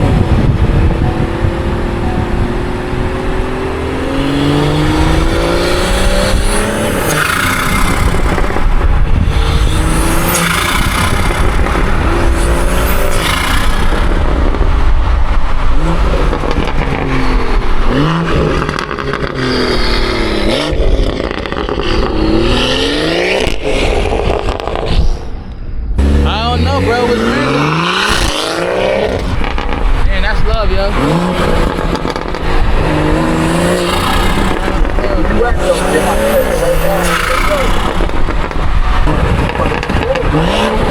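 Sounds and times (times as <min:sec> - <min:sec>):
car engine revving: 0:00.0 - 0:40.9
exhaust cracks: 0:00.0 - 0:40.9.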